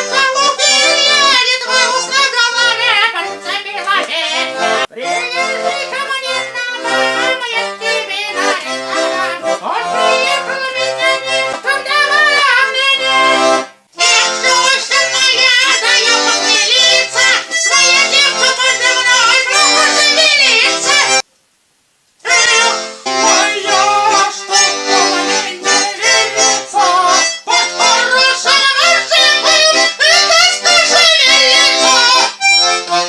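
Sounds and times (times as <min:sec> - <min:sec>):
button accordion folk tune: 0:00.0 - 0:21.2, 0:22.2 - 0:33.0.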